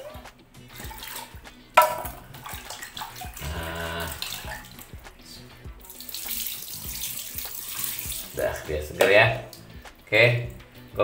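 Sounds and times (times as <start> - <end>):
water pouring and splashing: 0.0 - 5.2, 5.8 - 9.7.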